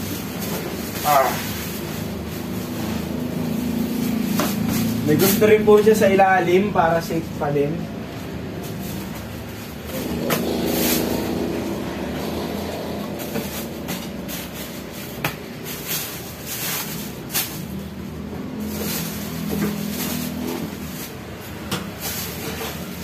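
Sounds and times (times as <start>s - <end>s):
plastic wrapping rustling: 0.0s - 23.0s.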